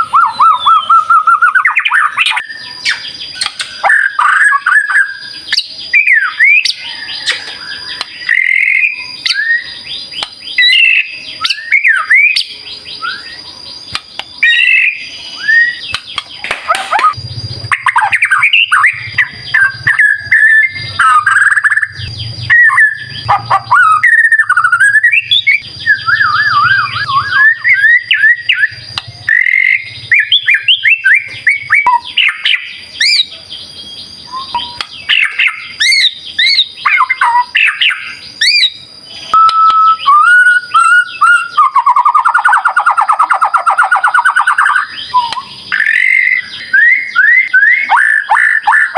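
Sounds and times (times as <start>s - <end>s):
songbird singing: 0.0s - 48.9s.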